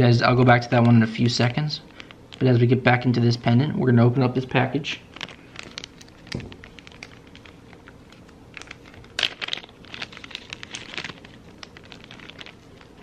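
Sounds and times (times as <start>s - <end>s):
plastic bag crinkling: 0.3s - 3.1s, 4.5s - 13.0s.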